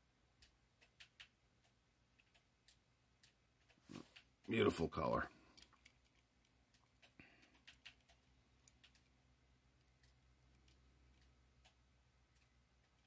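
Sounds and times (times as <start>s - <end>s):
faint ticks: 0.3s - 13.0s.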